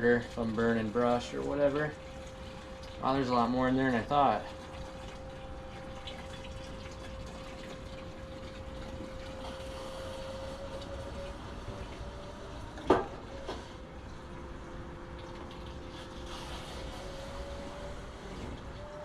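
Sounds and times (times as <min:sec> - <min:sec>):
fuel pouring into can: 0:00.0 - 0:14.3, 0:15.1 - 0:19.0
fuel pump whining: 0:00.0 - 0:19.0.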